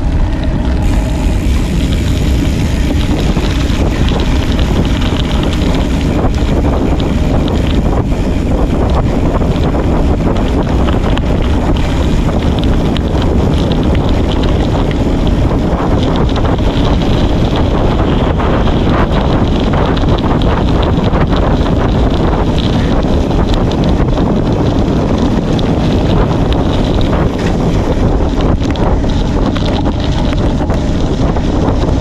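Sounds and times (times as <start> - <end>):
wind buffeting microphone: 0.0 - 32.0
small crackles and clicks: 0.1 - 32.0.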